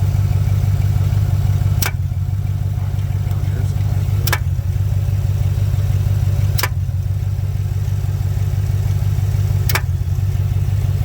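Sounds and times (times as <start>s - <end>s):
engine clunks: 0.0s - 11.0s
pickup engine idling: 0.0s - 11.0s.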